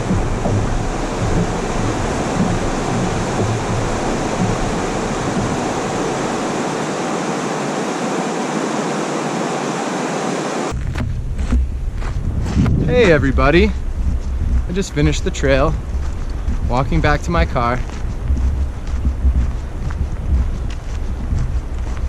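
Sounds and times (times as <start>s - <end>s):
mountain stream rushing: 0.0s - 10.8s, 12.9s - 22.0s.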